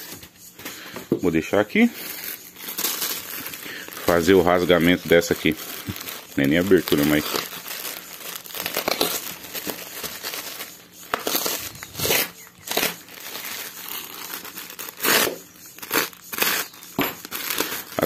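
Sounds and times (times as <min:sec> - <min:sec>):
plastic bag crinkling: 0:01.7 - 0:18.0
plastic ripping: 0:01.9 - 0:18.0.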